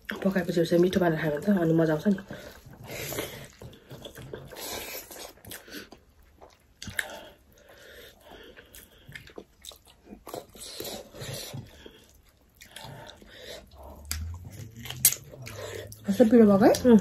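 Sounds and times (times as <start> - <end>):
people chewing and biting food: 2.2 - 17.0.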